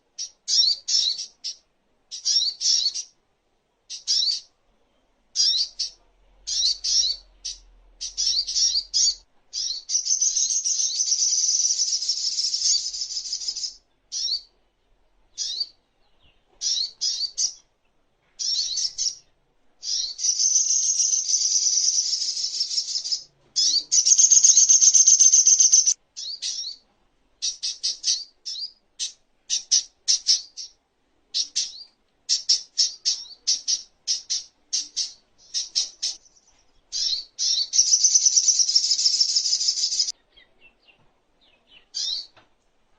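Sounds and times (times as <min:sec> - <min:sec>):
bird singing high-pitched song: 0:00.2 - 0:03.2, 0:03.9 - 0:14.5, 0:15.3 - 0:17.7, 0:18.4 - 0:26.8, 0:27.4 - 0:42.4.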